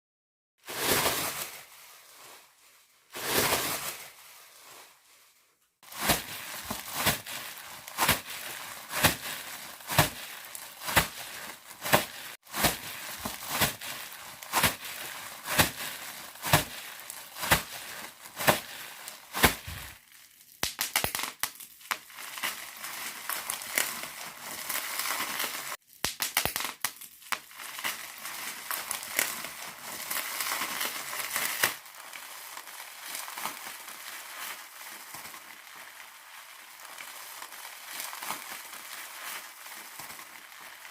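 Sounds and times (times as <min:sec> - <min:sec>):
bubble wrap popping and crinkling: 0:00.6 - 0:40.9.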